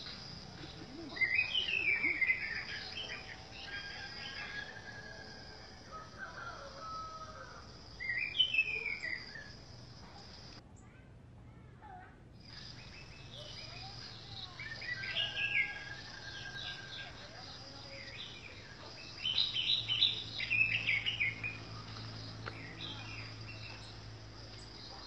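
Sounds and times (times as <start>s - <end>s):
high insect drone: 0.0s - 10.6s, 12.4s - 25.0s.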